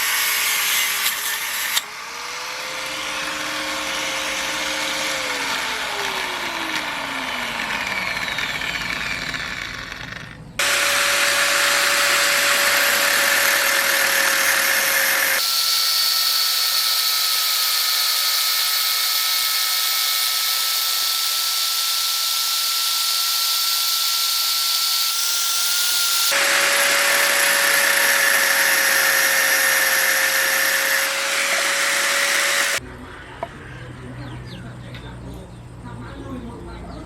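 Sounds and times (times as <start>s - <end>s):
electric power tool whining: 0.0s - 32.8s.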